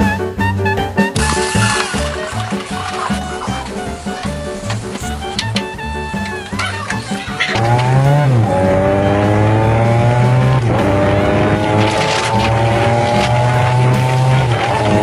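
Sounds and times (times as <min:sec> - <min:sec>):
racing engine accelerating: 0:01.2 - 0:15.0.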